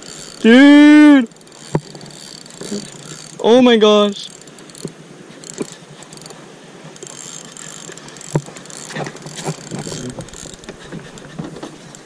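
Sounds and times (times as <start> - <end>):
fishing reel ratchet clicking: 0.0 - 3.4, 4.2 - 12.0.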